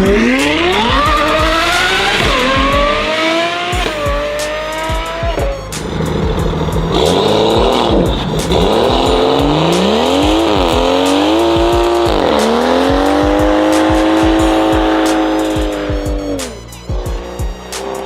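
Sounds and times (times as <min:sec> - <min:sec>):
car engine revving hard: 0:00.0 - 0:18.0
music beat: 0:00.0 - 0:18.0.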